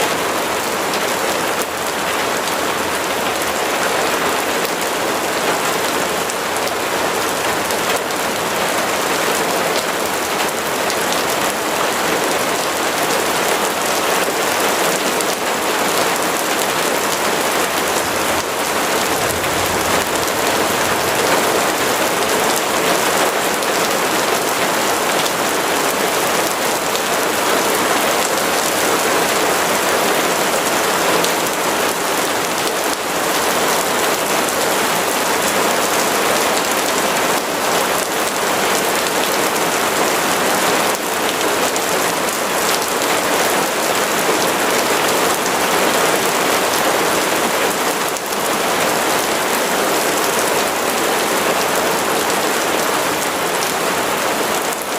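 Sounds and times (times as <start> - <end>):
steady rain pattering: 0.0 - 54.9.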